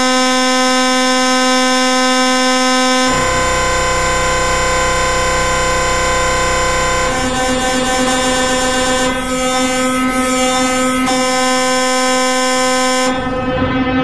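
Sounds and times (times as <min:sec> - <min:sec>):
dense synthesized chord: 0:00.0 - 0:14.0.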